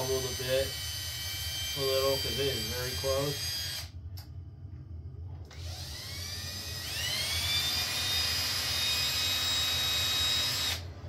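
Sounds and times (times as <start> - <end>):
electric drill whining: 0.0 - 4.0, 5.5 - 10.9.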